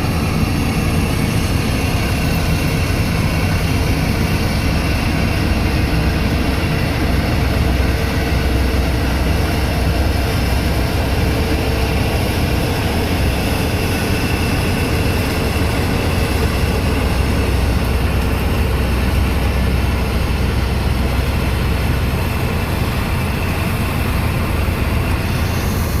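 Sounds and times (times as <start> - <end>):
combine harvester engine drone: 0.0 - 26.0
machinery running: 0.0 - 26.0.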